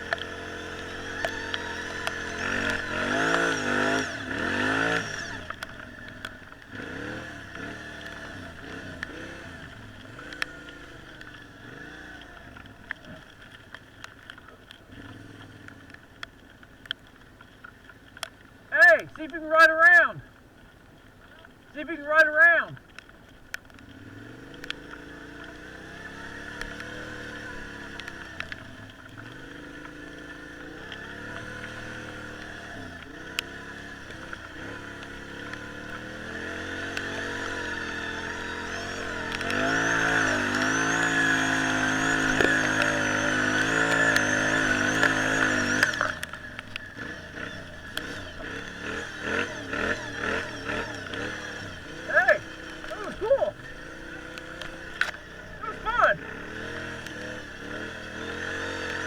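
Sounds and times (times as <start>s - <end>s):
off-road vehicle engine revving: 0.0s - 13.7s, 14.8s - 16.0s, 21.8s - 22.8s, 23.6s - 59.0s.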